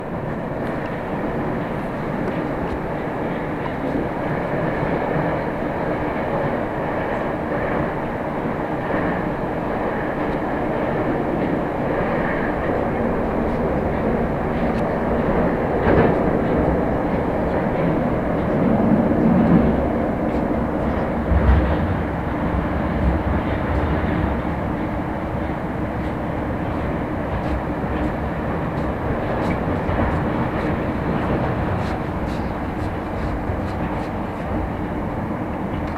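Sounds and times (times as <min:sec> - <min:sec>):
metro train rumbling: 0:00.0 - 0:35.9.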